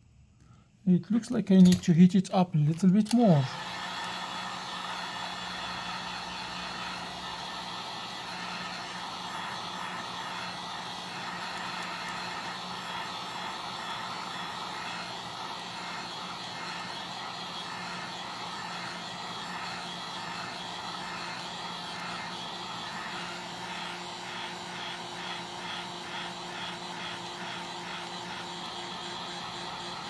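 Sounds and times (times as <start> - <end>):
heat gun blowing: 2.7 - 30.0.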